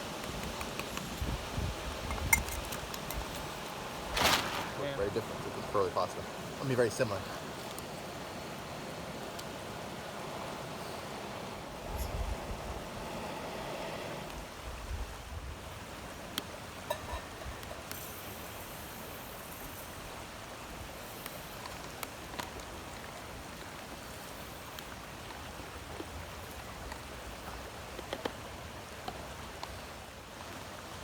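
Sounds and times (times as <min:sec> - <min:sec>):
creek water flowing: 0:00.0 - 0:31.0.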